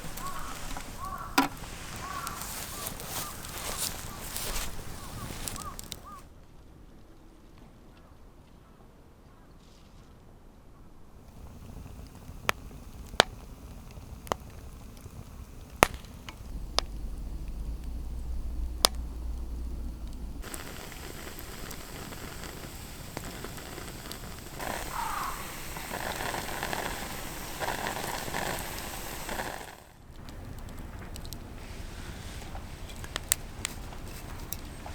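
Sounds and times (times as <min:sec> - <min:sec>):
steady hiss: 0:00.0 - 0:06.3, 0:11.2 - 0:34.9
wood fire crackling and popping: 0:00.0 - 0:06.3, 0:11.2 - 0:34.9.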